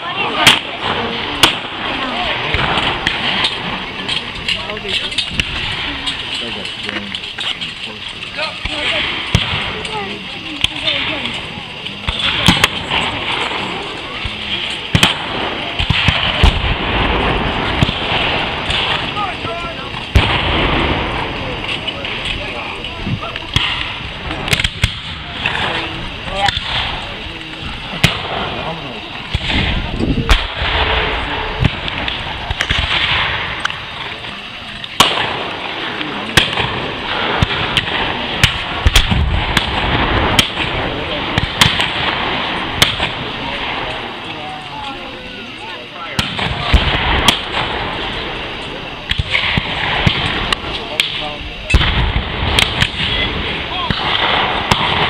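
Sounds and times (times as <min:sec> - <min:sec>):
gunshots: 0:00.0 - 0:06.7, 0:08.4 - 0:11.4, 0:12.0 - 0:22.8, 0:23.4 - 0:27.3, 0:27.9 - 0:44.8, 0:46.0 - 0:55.0.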